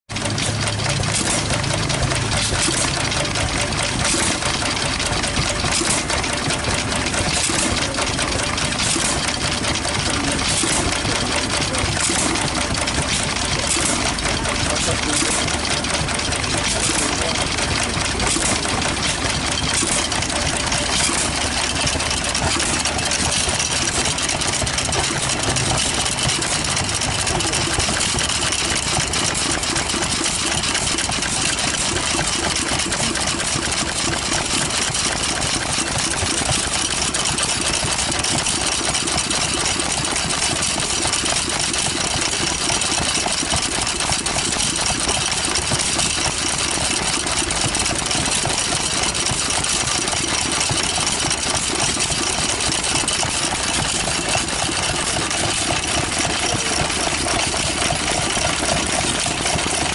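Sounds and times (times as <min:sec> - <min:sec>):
stationary engine running: 0:00.1 - 0:59.9.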